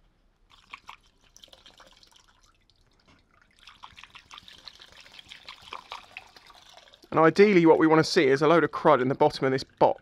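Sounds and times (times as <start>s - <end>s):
liquid dripping into container: 0.4s - 10.0s.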